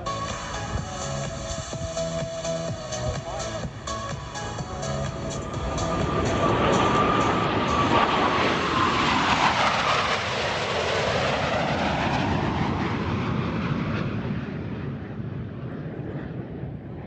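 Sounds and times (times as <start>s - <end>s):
jet aircraft roaring past: 0.0s - 17.0s.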